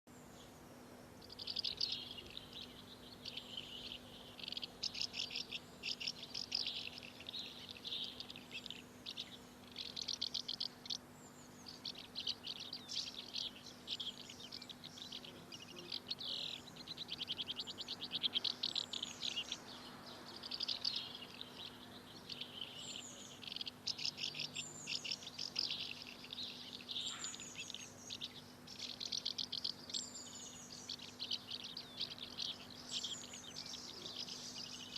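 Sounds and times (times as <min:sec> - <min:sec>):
birds chirping and trilling: 0:00.1 - 0:34.9.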